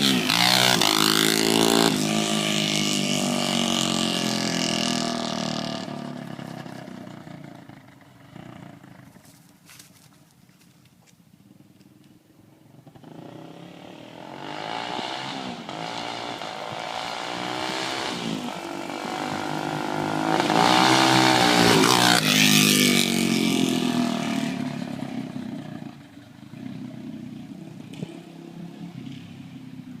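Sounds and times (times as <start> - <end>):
motorcycle riding by: 0.0 - 10.0, 12.7 - 30.0.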